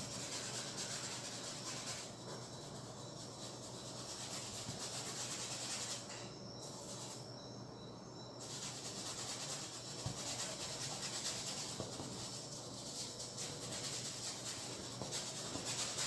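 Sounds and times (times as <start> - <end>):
paintbrush scrubbing canvas: 0.0 - 6.0, 8.4 - 16.0.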